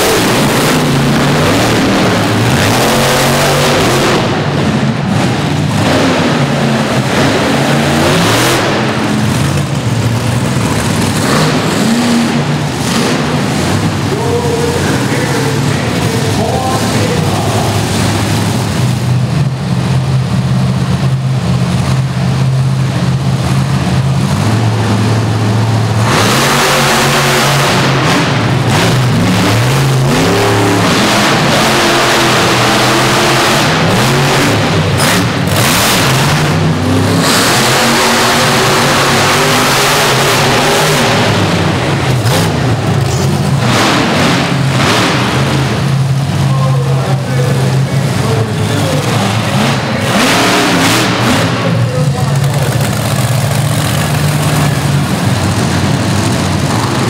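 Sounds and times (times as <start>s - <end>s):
truck engines idling and revving: 0.0s - 57.0s.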